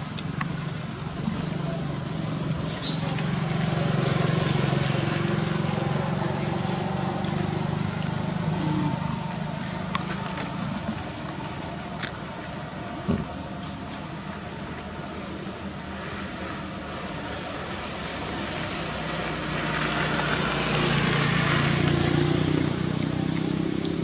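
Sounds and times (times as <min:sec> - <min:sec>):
low engine-like hum: 0:00.0 - 0:24.0.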